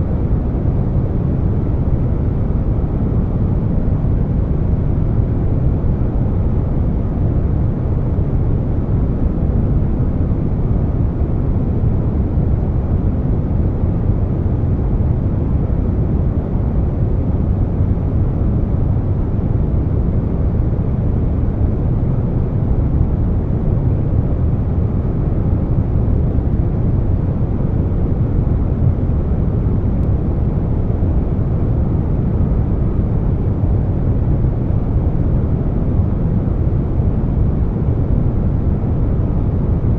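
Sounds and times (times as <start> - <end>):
air conditioner running: 0.0 - 39.9
deep brown noise rush: 0.0 - 39.9.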